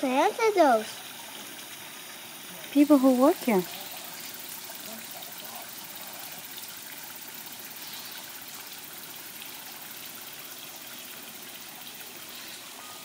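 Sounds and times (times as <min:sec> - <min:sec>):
water trickling into a pond: 0:00.0 - 0:13.0.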